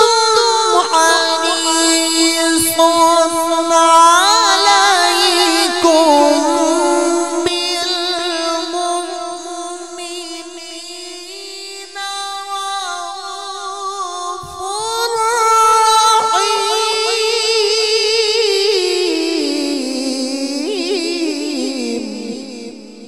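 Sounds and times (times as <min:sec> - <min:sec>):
melodic recitation through microphone: 0:00.0 - 0:23.0.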